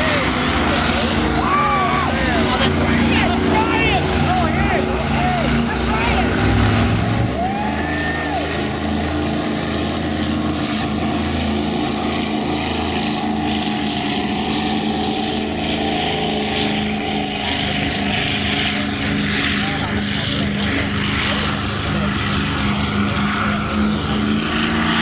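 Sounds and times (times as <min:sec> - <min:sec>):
powerboat engines running hard: 0:00.0 - 0:25.0
water rushing: 0:00.0 - 0:25.0.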